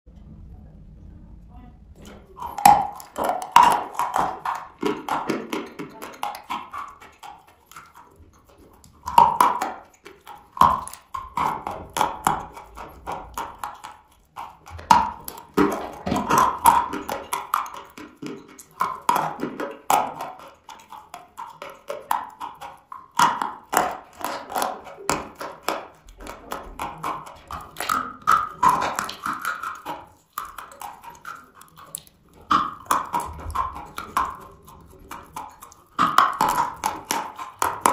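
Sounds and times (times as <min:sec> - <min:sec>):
chewing dry chalk crunches: 0:02.0 - 0:37.9.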